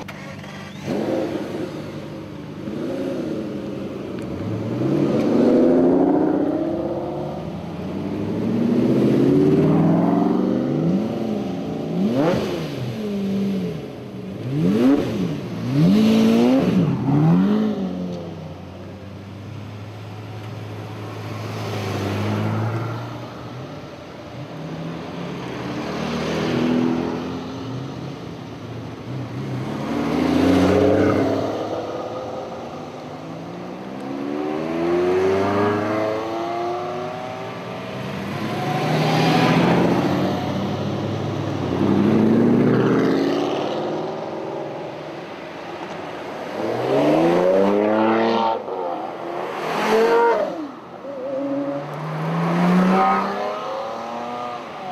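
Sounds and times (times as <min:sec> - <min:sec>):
sports car engines revving past: 0:00.0 - 0:54.9.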